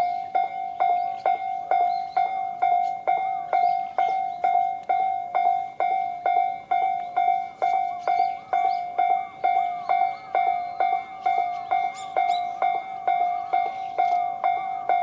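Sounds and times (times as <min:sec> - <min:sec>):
level crossing alarm bell ringing: 0:00.0 - 0:15.0.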